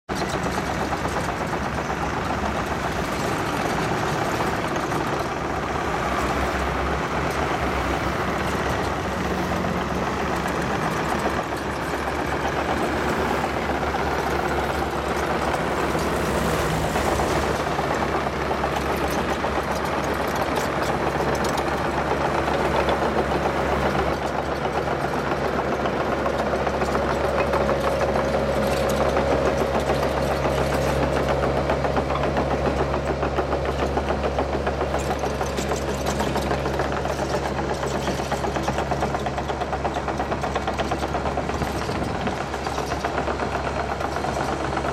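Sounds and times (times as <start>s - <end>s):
diesel engines humming: 0.2s - 44.9s.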